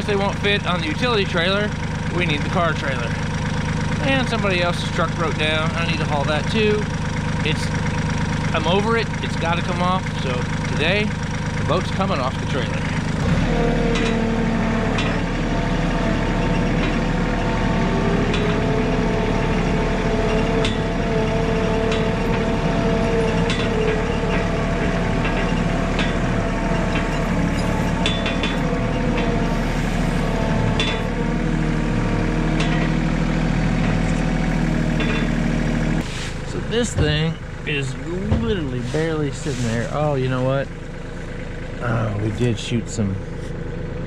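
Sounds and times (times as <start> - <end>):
short clanks and rattles: 0.0 - 40.0
tractor engine running: 0.0 - 44.0.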